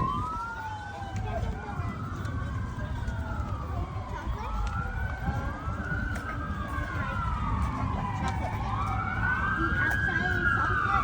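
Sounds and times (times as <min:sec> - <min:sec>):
emergency sirens wailing: 0:00.0 - 0:11.0.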